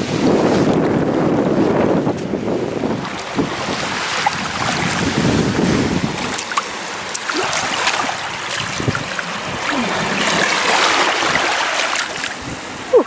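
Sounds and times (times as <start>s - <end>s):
shallow surf fizzing and clicking: 0.2s - 12.8s.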